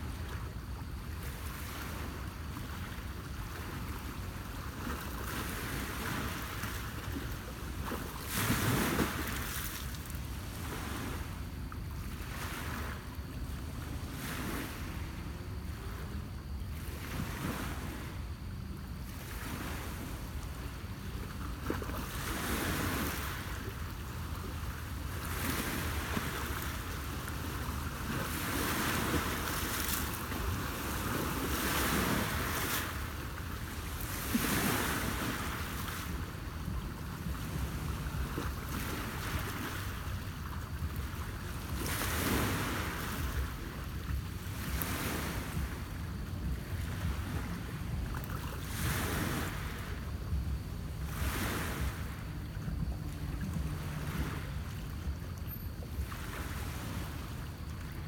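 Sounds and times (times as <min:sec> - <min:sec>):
waves lapping rocky shore: 0:00.0 - 0:58.0
wind rumble on microphone: 0:00.0 - 0:58.0.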